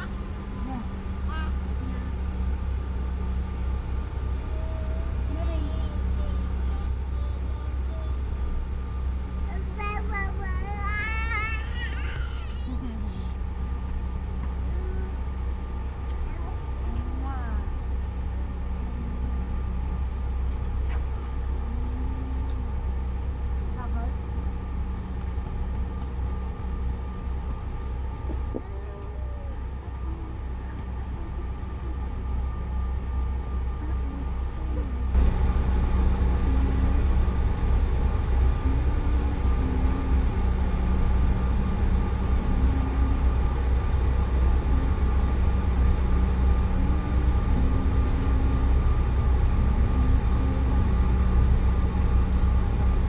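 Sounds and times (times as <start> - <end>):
jet cabin engine hum: 0.0 - 53.0.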